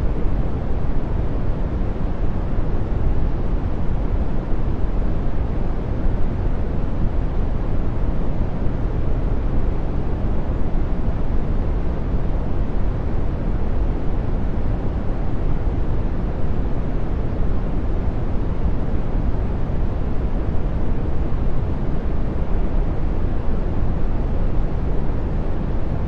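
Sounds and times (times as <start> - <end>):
brown noise: 0.0 - 26.0.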